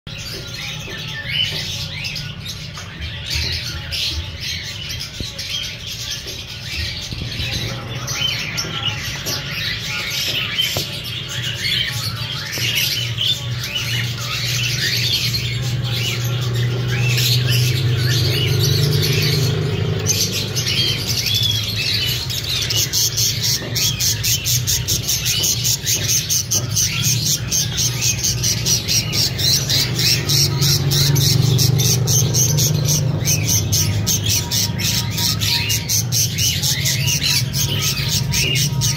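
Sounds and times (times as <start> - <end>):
parrots chirping and squawking: 0.1 - 38.9.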